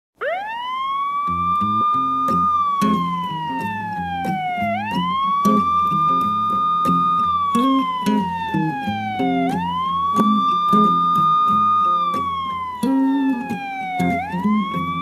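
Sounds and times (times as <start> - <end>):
siren wailing: 0.2 - 15.0
bass and guitar riff: 1.2 - 15.0.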